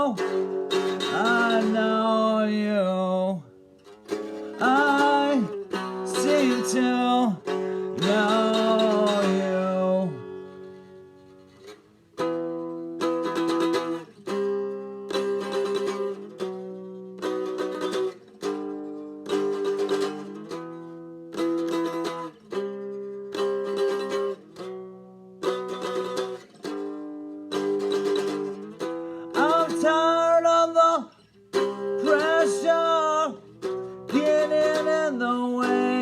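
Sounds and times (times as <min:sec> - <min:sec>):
acoustic string chords strummed: 0:00.0 - 0:36.0.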